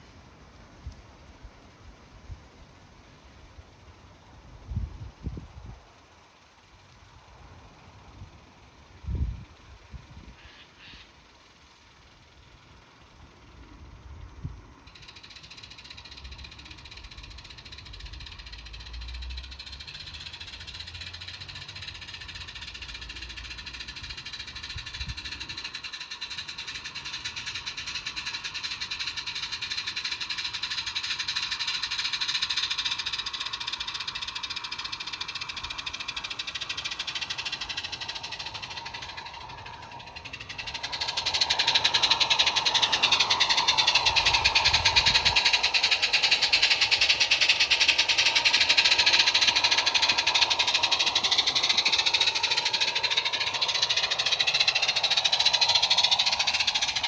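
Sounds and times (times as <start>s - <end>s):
model locomotive mechanical chatter: 0.0s - 57.0s.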